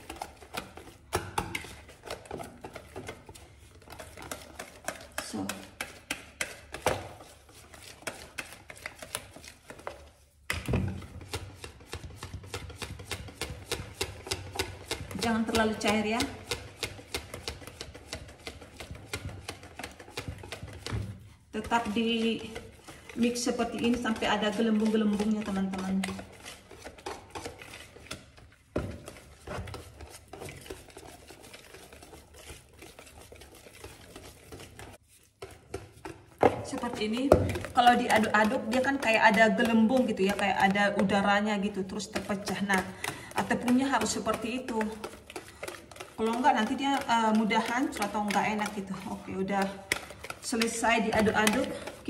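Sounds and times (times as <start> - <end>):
whisk beating batter in plastic bowl: 0.0 - 52.0.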